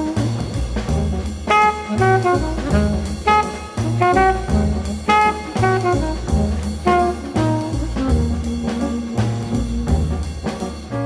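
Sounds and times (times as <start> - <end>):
instrumental jazz with brass and drums: 0.0 - 11.0.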